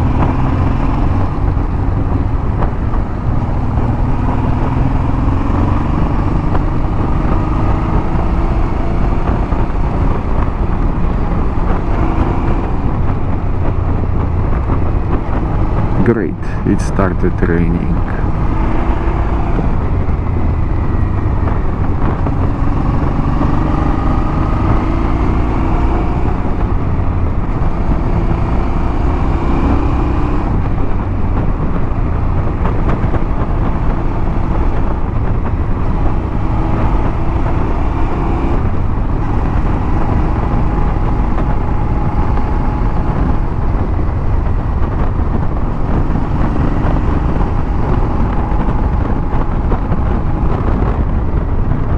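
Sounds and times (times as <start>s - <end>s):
wind noise on microphone: 0.0s - 16.7s, 18.0s - 51.9s
motorcycle engine running: 0.0s - 16.8s, 17.8s - 51.9s.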